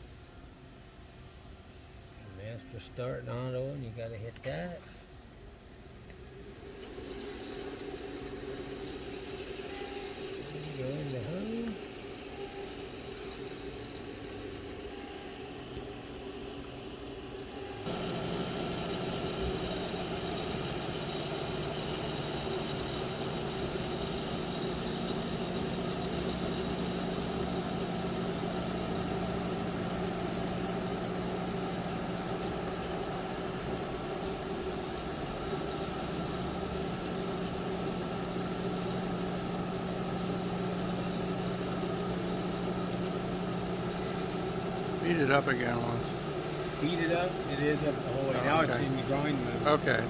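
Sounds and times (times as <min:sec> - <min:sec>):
grinder machine running: 0:06.7 - 0:50.0.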